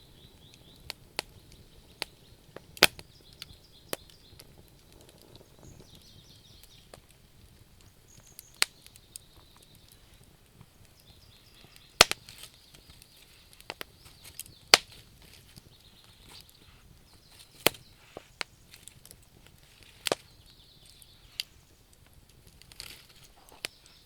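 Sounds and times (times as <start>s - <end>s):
sharp fire pops: 0.0s - 24.0s
wood fire crackling: 0.0s - 24.0s.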